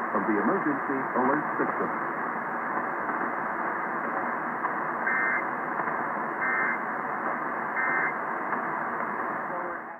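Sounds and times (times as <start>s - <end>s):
radio hiss: 0.0s - 9.9s.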